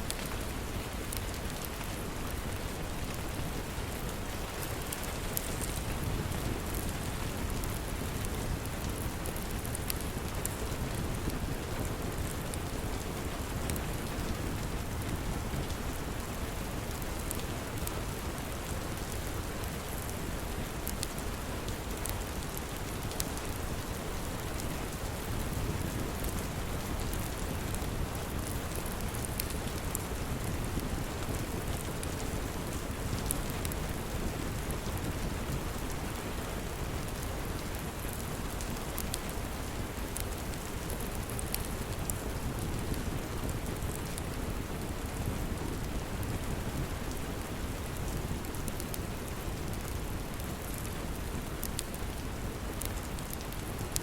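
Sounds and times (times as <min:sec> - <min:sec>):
fireplace crackling and popping: 0:00.0 - 0:54.0
steady rain: 0:00.0 - 0:54.0.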